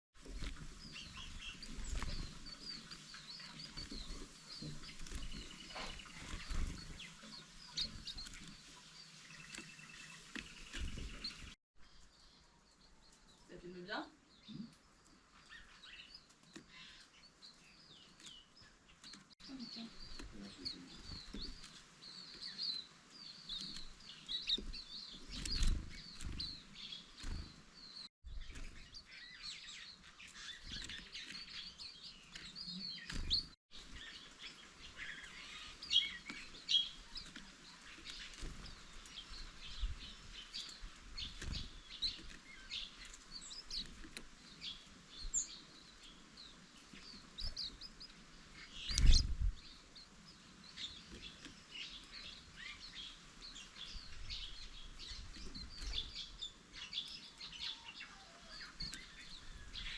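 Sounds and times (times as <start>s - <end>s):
birds chirping and twittering: 0.2s - 59.9s.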